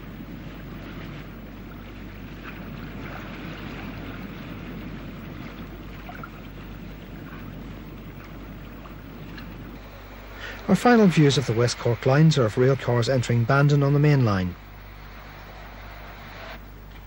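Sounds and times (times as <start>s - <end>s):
low constant hum: 0.0s - 17.0s
steady rushing noise: 0.0s - 17.0s.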